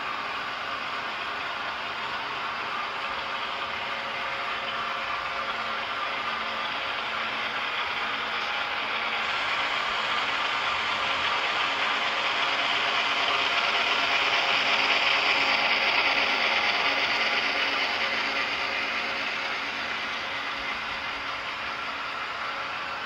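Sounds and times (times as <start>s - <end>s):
model train whirring and rattling: 0.0s - 23.0s.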